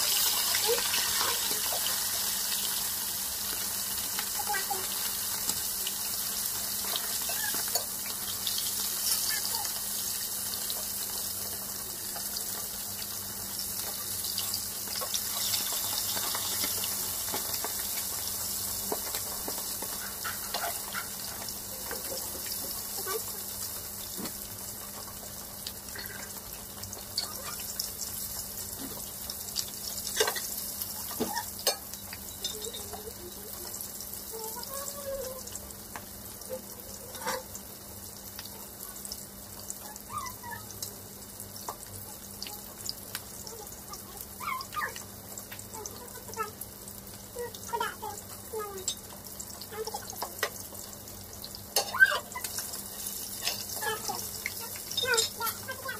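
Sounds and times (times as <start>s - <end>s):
fish sizzling in oil: 0.0s - 55.9s
oil popping and crackling: 0.0s - 55.9s.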